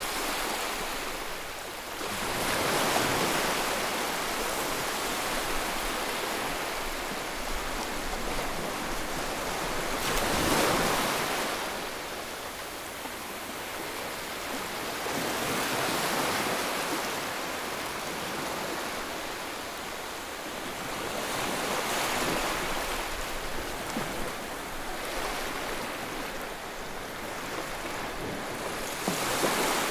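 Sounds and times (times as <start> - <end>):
rushing floodwater: 0.0 - 29.9.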